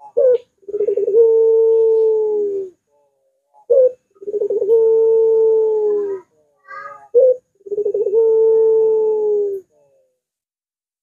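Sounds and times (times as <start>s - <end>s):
dove cooing: 0.0s - 10.1s.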